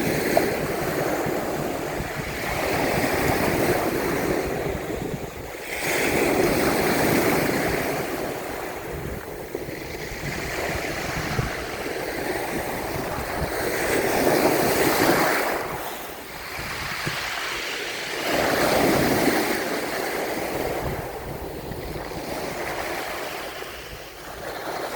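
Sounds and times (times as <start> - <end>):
sea waves breaking on shore: 0.0 - 24.9.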